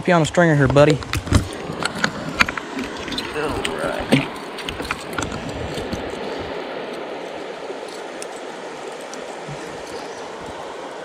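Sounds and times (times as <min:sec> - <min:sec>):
creek water running: 0:00.1 - 0:11.0.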